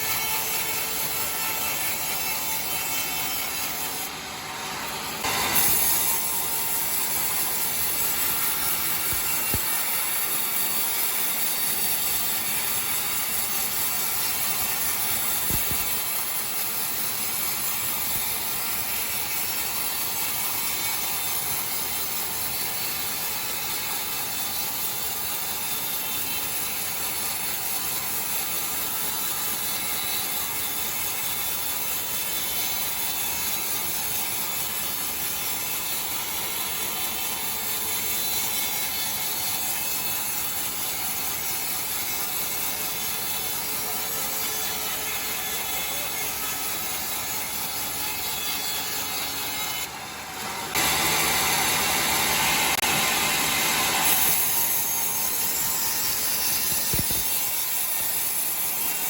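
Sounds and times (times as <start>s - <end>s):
sawmill saw cutting timber: 0.0s - 59.0s.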